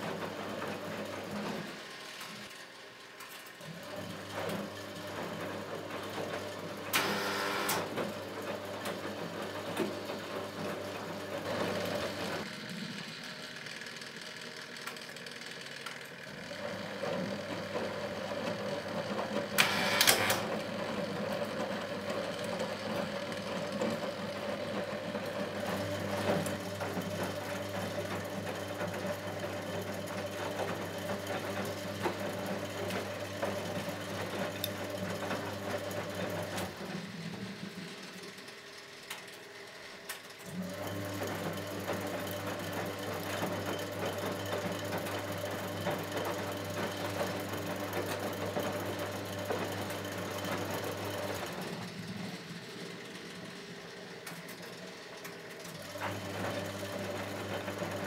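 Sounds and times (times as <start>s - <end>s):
washing machine motor humming: 0.0s - 58.0s.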